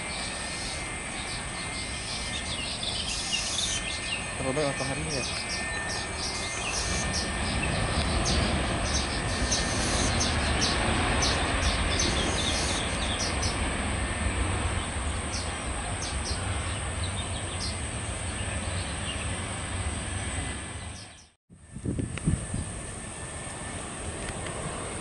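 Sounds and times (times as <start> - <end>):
insects buzzing and chirping: 0.0 - 21.8
jet engines roaring: 0.0 - 25.0.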